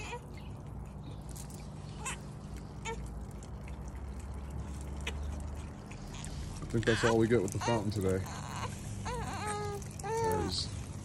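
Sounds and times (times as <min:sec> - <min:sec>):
water trickling over rock: 0:00.0 - 0:11.0
water drips splashing: 0:00.2 - 0:11.0.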